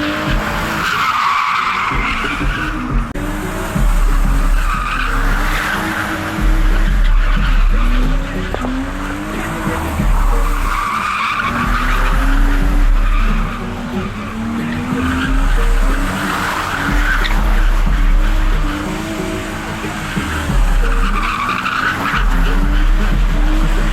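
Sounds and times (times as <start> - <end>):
car engines revving: 0.0 - 23.9
tyres screeching: 0.0 - 23.9.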